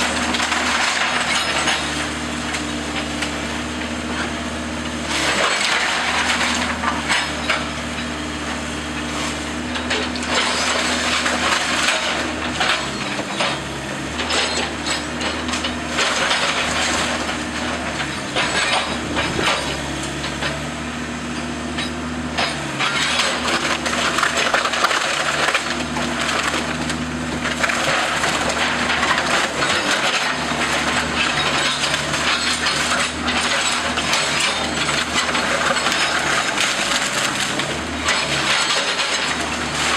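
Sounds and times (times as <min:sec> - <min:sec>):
wood cracking and crunching: 0:00.0 - 0:04.0, 0:08.9 - 0:20.7, 0:22.4 - 0:39.9.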